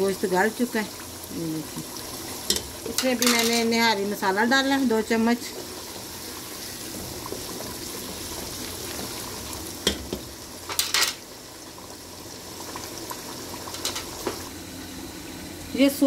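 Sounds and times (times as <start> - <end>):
pot simmering and bubbling: 0.0 - 15.6.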